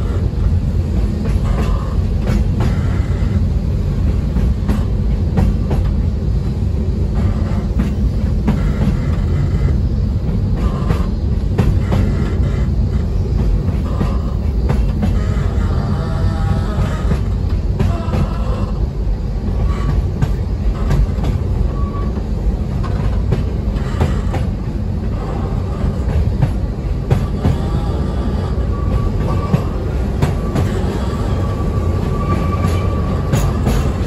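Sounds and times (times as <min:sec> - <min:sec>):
high-pitched train whine: 0:00.0 - 0:34.0
sharp clicks of train: 0:00.0 - 0:34.0
train rumbling: 0:00.0 - 0:34.0.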